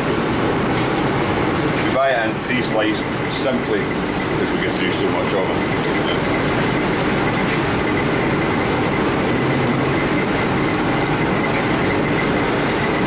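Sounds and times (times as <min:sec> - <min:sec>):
kitchen machinery rushing drone: 0:00.0 - 0:13.0
faint high whine: 0:02.5 - 0:13.0.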